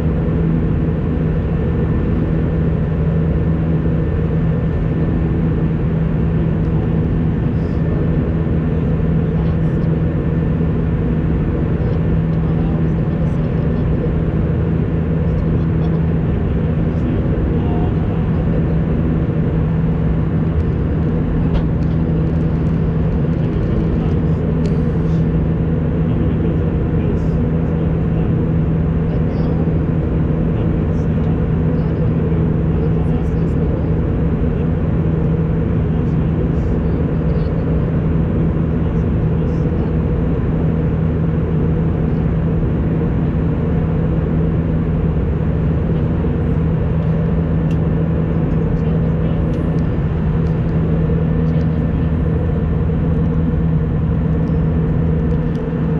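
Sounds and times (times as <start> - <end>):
constant low hum: 0.0 - 55.9
jet engines droning: 0.0 - 55.9.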